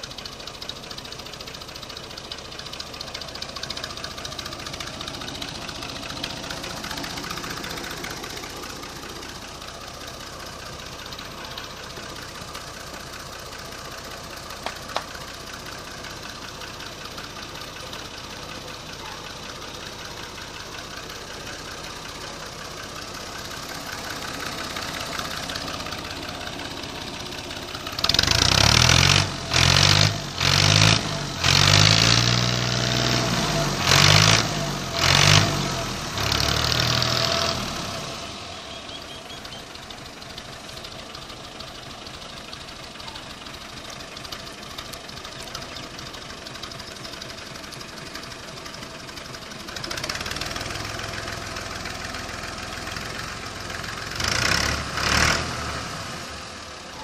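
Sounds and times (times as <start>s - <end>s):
tractor diesel engine idling: 0.0s - 57.0s
engine revving: 2.3s - 42.1s, 43.8s - 56.9s.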